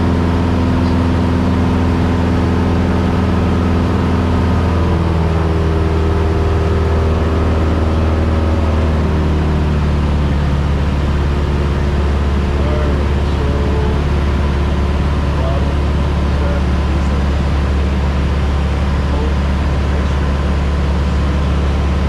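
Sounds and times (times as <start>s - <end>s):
airplane engine and propeller droning: 0.0s - 22.0s.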